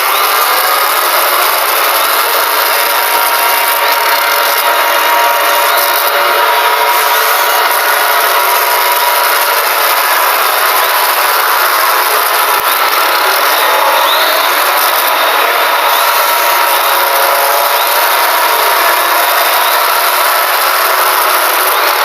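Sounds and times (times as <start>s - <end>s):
distorted alarm noise: 0.0s - 22.0s.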